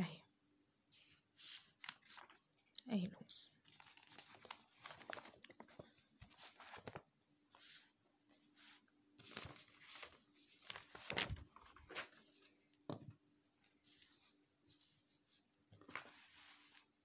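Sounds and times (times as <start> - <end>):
paper rustling: 0.9 - 2.5, 3.6 - 12.6, 13.6 - 17.0.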